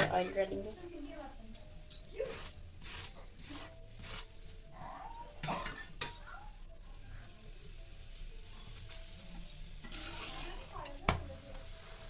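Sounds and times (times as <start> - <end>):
metal spatula scraping on iron pan: 0.0 - 0.7, 2.0 - 12.0
faint sizzling: 0.0 - 12.0.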